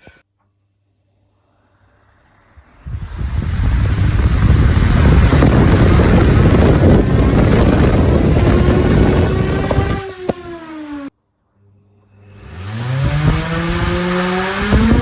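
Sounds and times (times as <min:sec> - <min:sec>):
electric fan motor roaring: 0:01.5 - 0:11.1, 0:12.1 - 0:15.0
motor whine spinning down: 0:01.6 - 0:11.1, 0:12.1 - 0:15.0.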